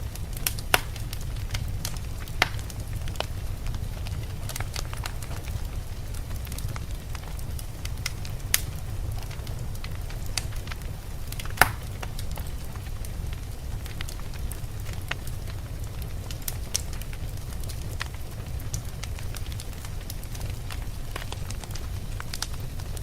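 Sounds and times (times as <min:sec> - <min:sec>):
blizzard wind rumble: 0:00.0 - 0:23.0
wood fire crackling and popping: 0:00.0 - 0:23.0.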